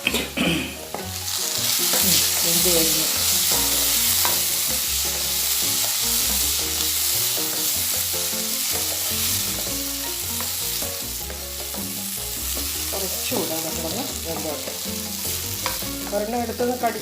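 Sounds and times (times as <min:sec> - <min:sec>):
potatoes sizzling in a pan: 0:00.0 - 0:17.0.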